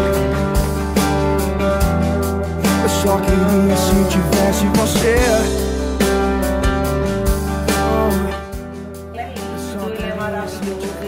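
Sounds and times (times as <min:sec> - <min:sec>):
instrumental accompaniment: 0:00.0 - 0:11.0
slow sung ballad: 0:00.0 - 0:11.0.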